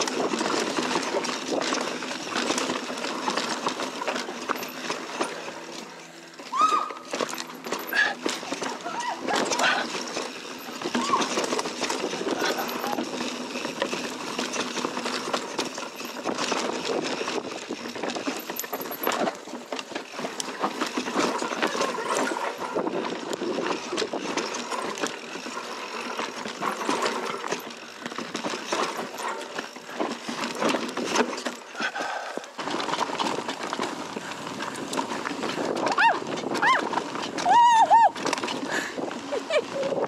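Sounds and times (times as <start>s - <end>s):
bike rattling over bumps: 0.0s - 40.0s
bike tyres on dirt and leaves: 0.0s - 40.0s.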